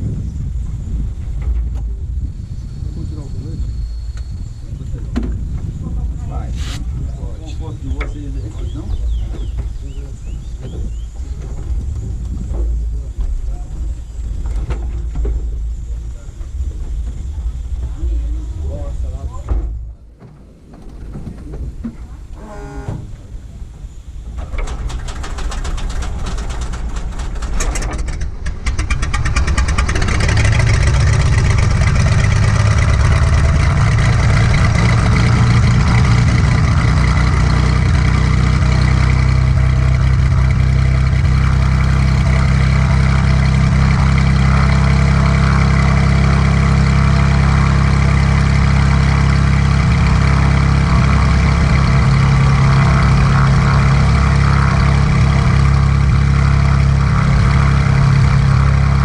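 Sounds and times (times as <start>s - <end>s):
aircraft engine starting: 0.7s - 59.0s.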